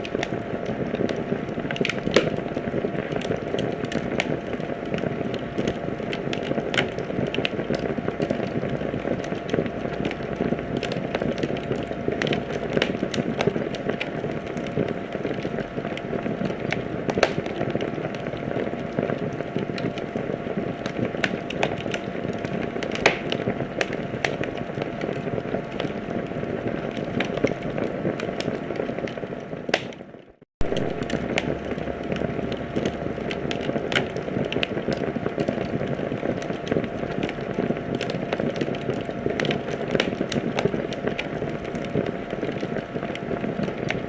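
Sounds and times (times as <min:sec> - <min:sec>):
sharp fire pops: 0:00.0 - 0:44.0
wood fire crackling: 0:00.0 - 0:44.0.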